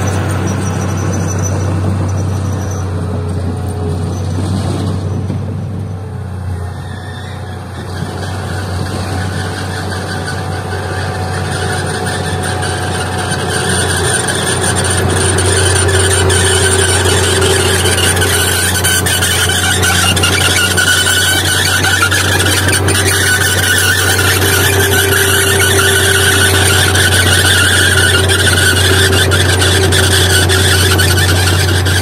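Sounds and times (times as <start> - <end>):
bulldozer engine running: 0.0 - 32.0
steel tracks squealing: 0.0 - 32.0.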